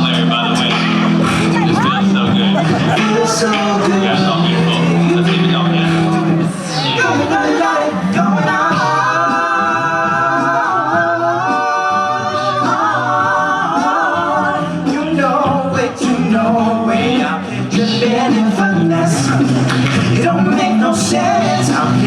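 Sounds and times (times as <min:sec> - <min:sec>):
male a cappella group singing: 0:00.0 - 0:22.0.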